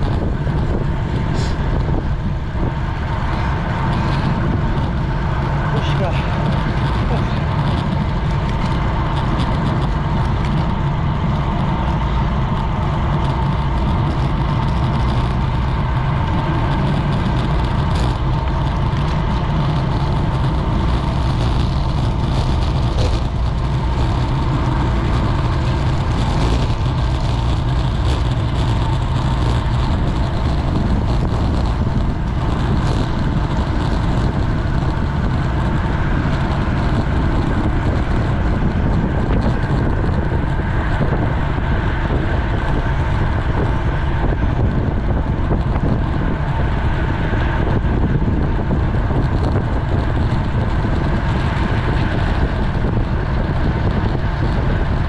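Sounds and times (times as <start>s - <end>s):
tyre and road noise: 0.0s - 55.0s
wind on microphone: 0.0s - 55.0s.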